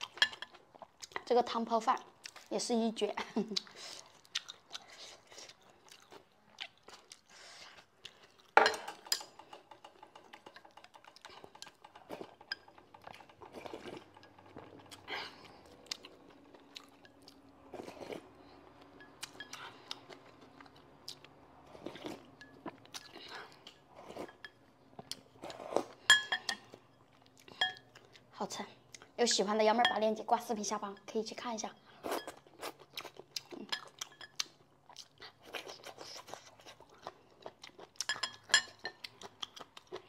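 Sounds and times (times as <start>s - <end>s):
person chewing: 2.1s - 2.5s, 3.5s - 8.6s, 9.2s - 29.2s, 31.9s - 40.0s.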